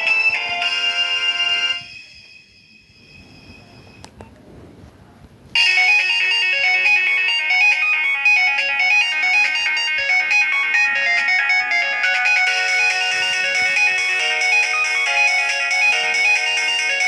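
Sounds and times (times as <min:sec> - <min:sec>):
mobile phone ringtone melody: 0:00.0 - 0:04.1, 0:05.6 - 0:17.0.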